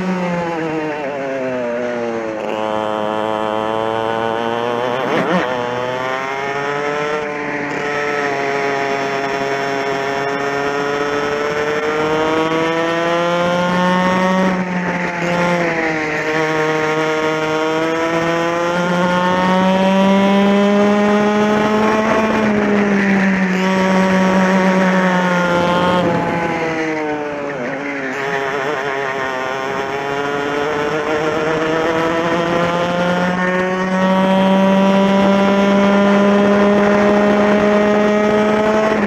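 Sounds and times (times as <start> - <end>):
kart engine revving: 0.0 - 39.0.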